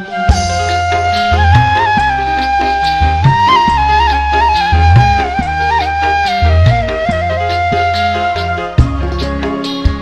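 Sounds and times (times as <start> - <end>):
bass: 0.0 - 10.0
high instrumental melody: 0.0 - 10.0.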